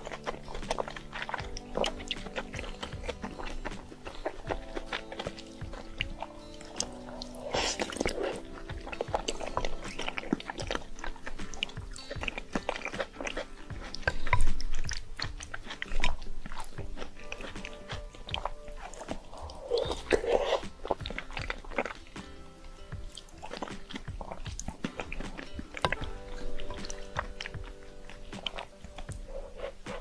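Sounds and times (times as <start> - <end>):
background music: 0.0 - 30.0
close chewing and biting: 0.0 - 30.0
wet mouth clicks: 0.0 - 30.0.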